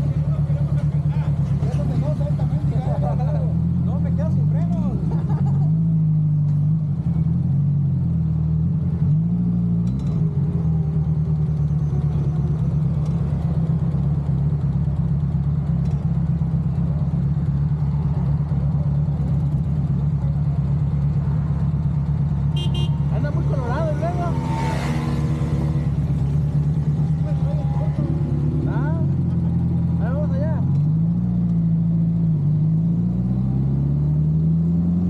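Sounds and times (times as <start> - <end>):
motorcycle engine revving and idling: 0.0 - 35.0.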